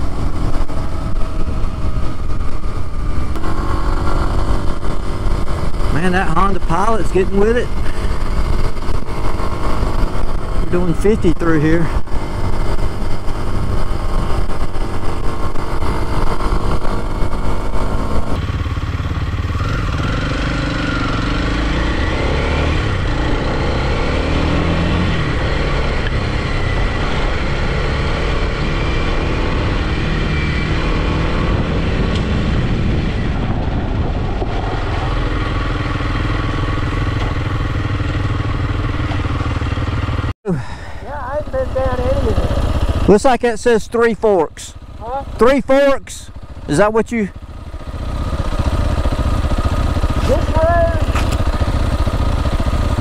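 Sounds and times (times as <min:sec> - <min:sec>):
motorcycle engine running: 0:00.0 - 0:53.0
rushing road noise: 0:00.0 - 0:53.0.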